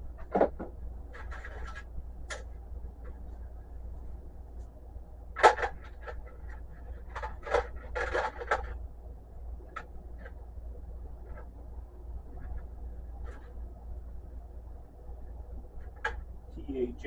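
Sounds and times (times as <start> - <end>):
wire handling noise: 0.0 - 14.3, 15.3 - 16.5
steady low hum: 0.0 - 17.0.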